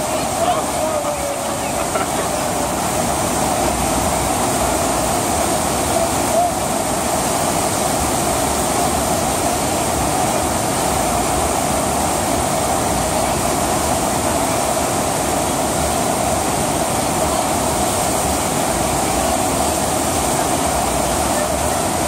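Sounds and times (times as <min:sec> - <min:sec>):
rush of pumped water: 0:00.0 - 0:22.0.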